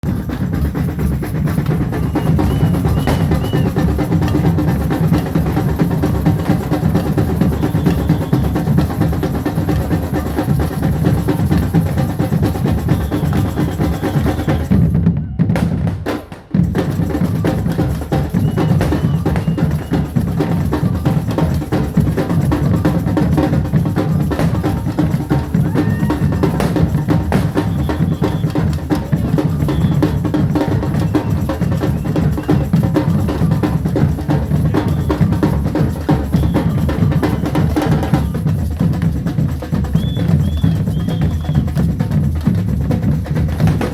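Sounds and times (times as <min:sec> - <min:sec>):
bass and snare drums beating: 0:00.0 - 0:43.9.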